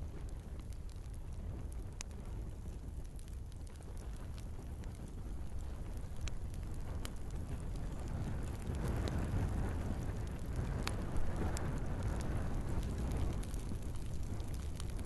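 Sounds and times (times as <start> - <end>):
logs crackling and popping: 0.0 - 15.0
wood fire burning: 0.0 - 15.0.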